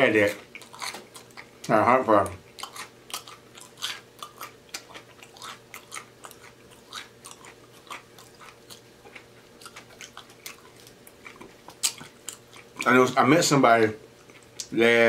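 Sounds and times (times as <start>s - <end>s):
person chewing food: 0.2s - 13.2s, 14.0s - 14.8s.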